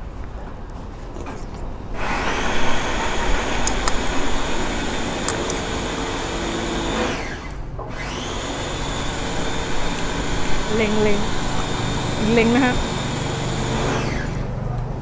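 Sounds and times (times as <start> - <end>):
machine motor whirring: 1.9 - 14.5.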